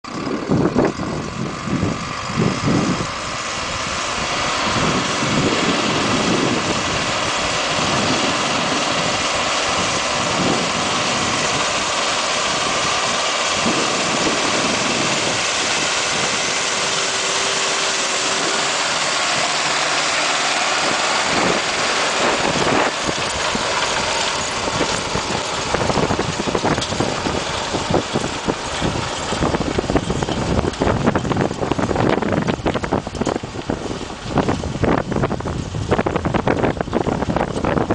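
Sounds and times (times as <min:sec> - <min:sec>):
tractor diesel engine running: 0:00.0 - 0:37.9
wind buffeting microphone: 0:00.1 - 0:37.9.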